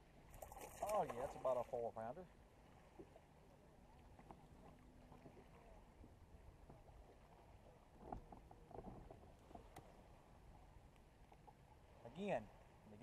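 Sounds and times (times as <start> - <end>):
faint water and wind: 0.0 - 13.0
soft water splashes: 0.0 - 13.0.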